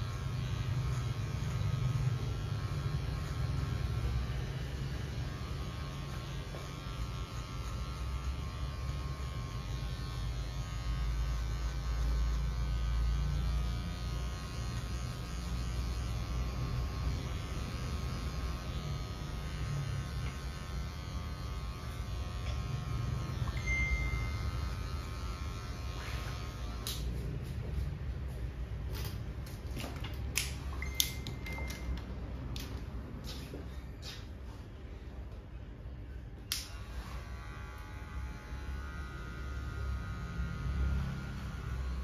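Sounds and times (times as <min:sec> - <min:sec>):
electric hair clippers buzzing: 0:00.0 - 0:32.8, 0:36.4 - 0:42.0.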